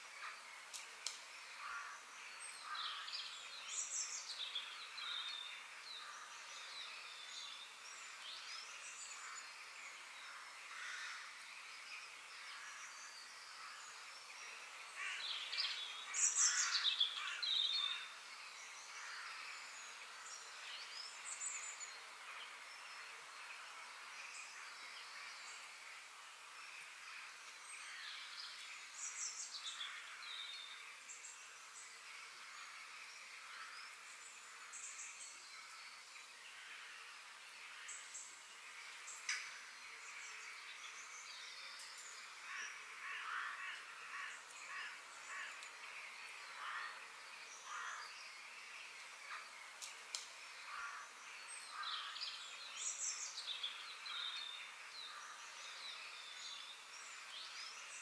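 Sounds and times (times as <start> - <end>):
forest birds singing: 0.0 - 58.0
steady high background hiss: 0.0 - 58.0.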